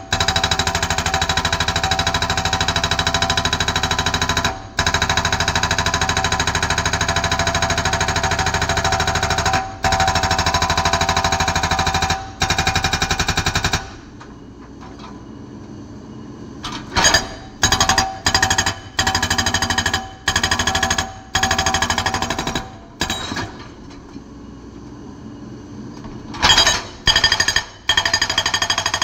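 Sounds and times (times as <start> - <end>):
hydraulic breaker hammering rock: 0.0 - 14.0, 16.8 - 23.8, 26.4 - 29.0.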